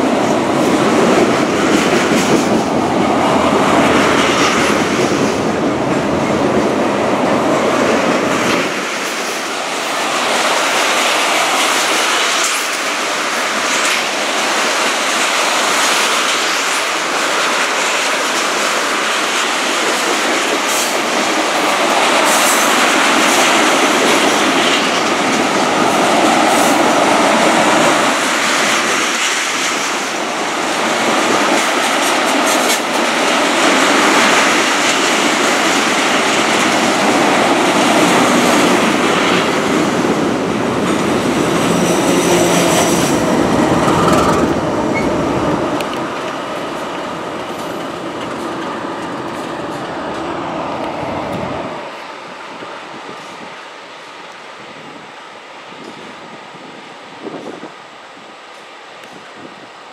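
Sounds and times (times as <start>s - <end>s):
wheels clicking over rail joints: 0.0s - 52.0s.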